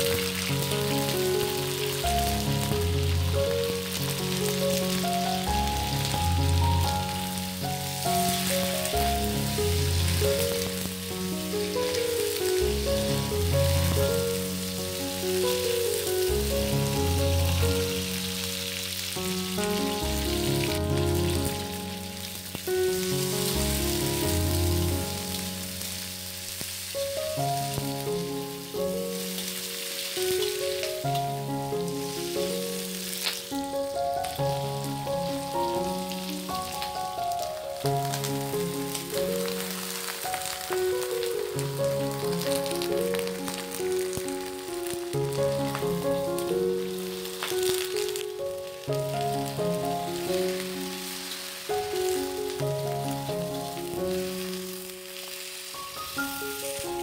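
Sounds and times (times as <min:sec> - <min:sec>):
metal spatula stir-frying: 0:00.0 - 0:57.0
vegetables sizzling in hot oil: 0:00.0 - 0:57.0.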